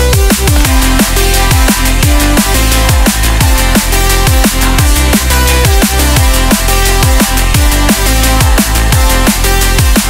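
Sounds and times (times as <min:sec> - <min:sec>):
deep bass beat: 0:00.0 - 0:10.0.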